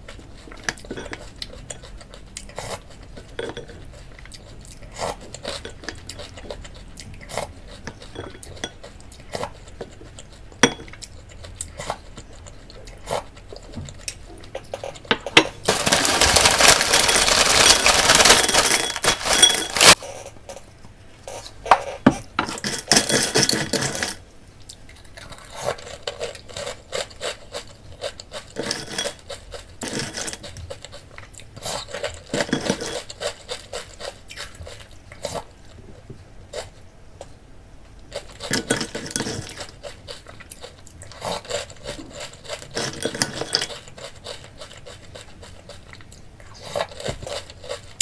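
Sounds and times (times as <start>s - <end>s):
cereal being chewed: 0.0s - 20.0s, 22.6s - 37.4s, 38.0s - 48.0s.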